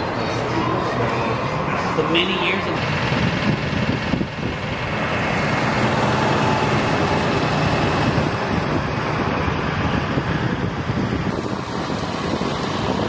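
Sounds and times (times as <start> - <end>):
bus engine driving past: 0.0 - 13.0.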